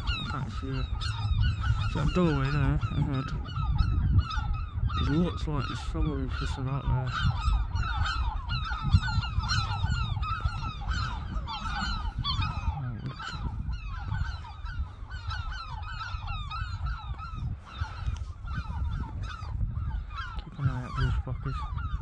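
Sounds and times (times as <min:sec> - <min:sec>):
seagulls calling: 0:00.0 - 0:22.0
steady low rumble: 0:00.0 - 0:22.0.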